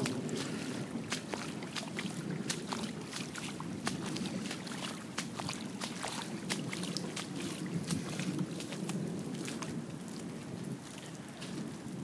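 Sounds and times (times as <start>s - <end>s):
water drips and splashes: 0.0s - 12.0s
water rushing: 0.0s - 12.0s.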